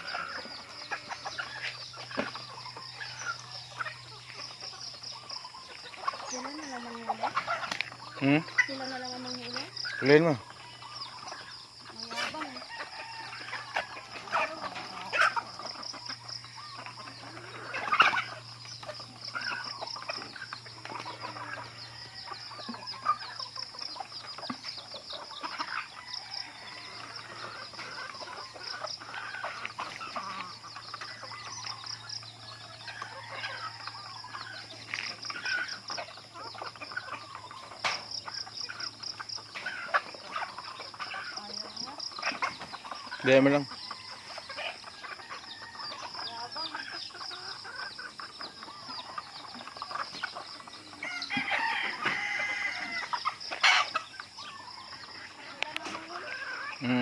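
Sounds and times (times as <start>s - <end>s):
chickens clucking and squawking: 0.0s - 57.0s
insects trilling: 0.0s - 57.0s.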